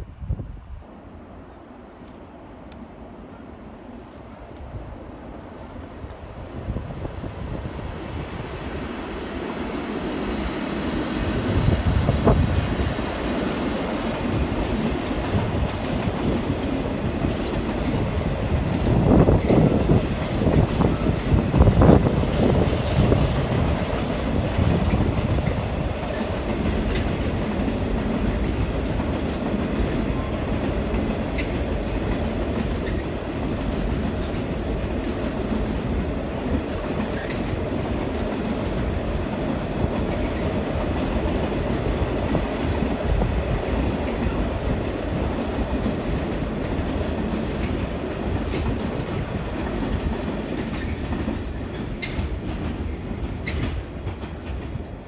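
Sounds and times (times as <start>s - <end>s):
train rolling on rails: 0.0s - 55.0s
freight train wheels clattering: 10.7s - 55.0s.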